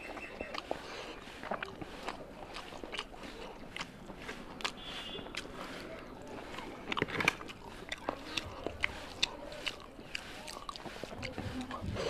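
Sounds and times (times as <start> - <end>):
chewing: 0.0 - 12.0
hand mixing rice in curry: 0.0 - 12.0.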